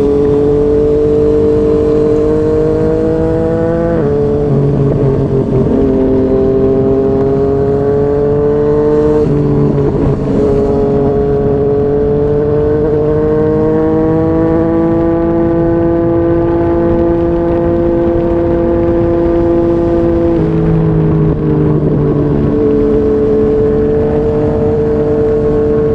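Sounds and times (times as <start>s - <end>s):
motorcycle engine on highway: 0.0s - 25.9s.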